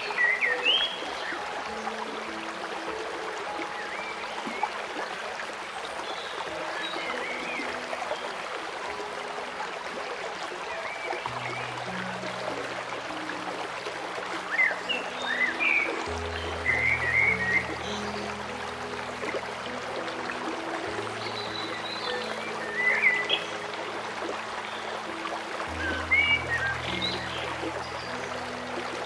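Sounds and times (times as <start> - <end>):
ambient music with low held notes: 0.0 - 29.0
running water: 0.0 - 29.0.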